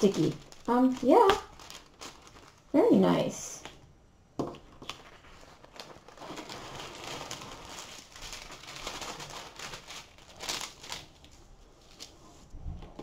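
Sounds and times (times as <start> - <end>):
louder plastic crackle: 0.0 - 3.0, 4.6 - 13.0
plastic film crinkling: 0.0 - 3.8, 4.5 - 13.0.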